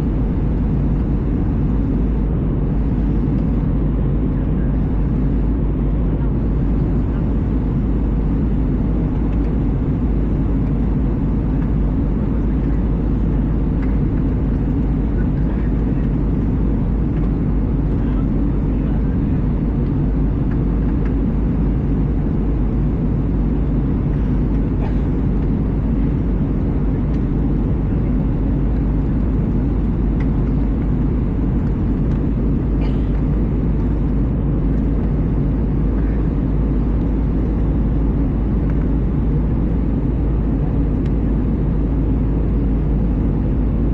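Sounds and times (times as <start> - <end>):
airflow along fuselage: 0.0 - 43.9
engines low rumble: 0.0 - 43.9.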